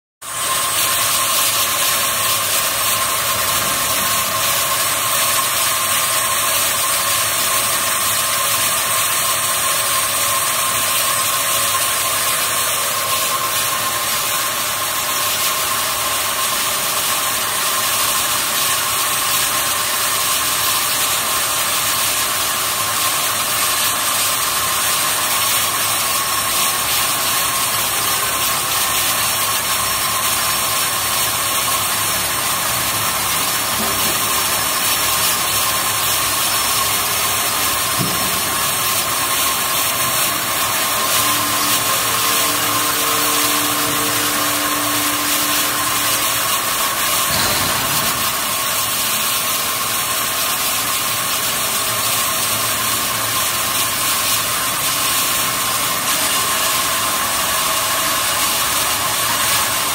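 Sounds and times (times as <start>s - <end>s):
band saws running: 0.2s - 59.9s.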